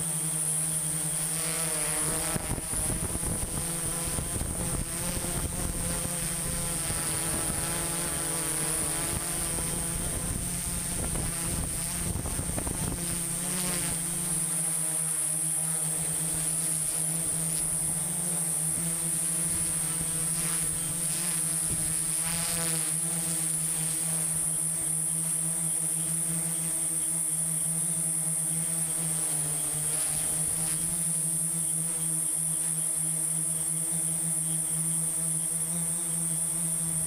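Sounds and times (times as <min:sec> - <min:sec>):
drone propellers buzzing: 0:00.0 - 0:37.0.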